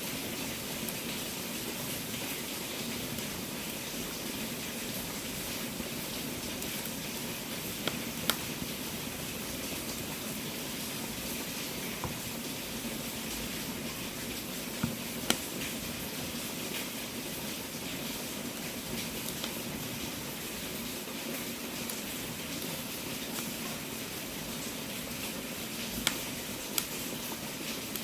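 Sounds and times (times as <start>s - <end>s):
wood fire hissing and crackling: 0.0s - 28.0s.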